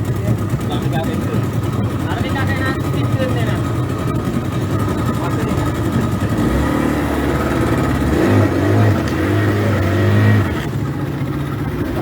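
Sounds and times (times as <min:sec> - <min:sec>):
engine picking up speed: 0:00.0 - 0:12.0.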